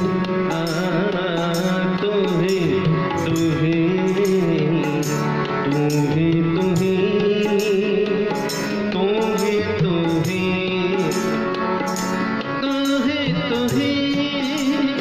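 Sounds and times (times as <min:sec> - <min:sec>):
harmonium tones: 0:00.0 - 0:15.0
tabla beat: 0:00.0 - 0:15.0.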